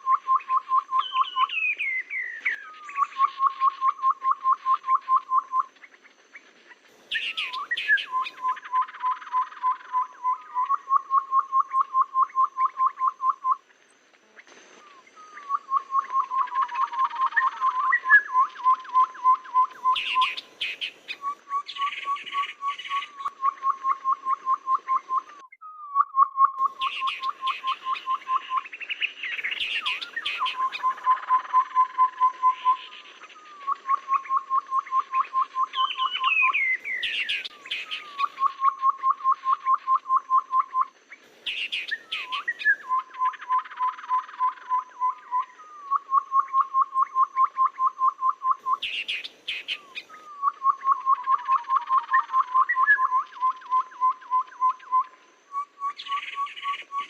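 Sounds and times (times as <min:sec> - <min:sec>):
low whistled bird notes: 0:00.0 - 0:05.7, 0:07.1 - 0:13.6, 0:14.7 - 0:57.0.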